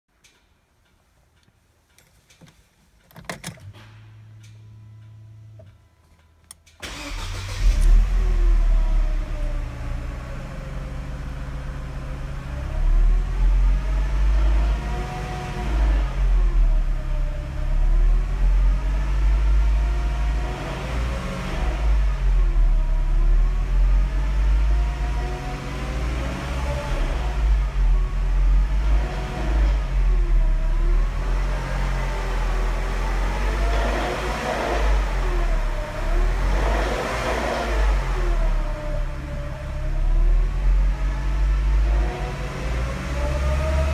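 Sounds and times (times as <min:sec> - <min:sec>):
engine whine: 0:06.5 - 0:43.9
car engine revving: 0:06.8 - 0:43.9.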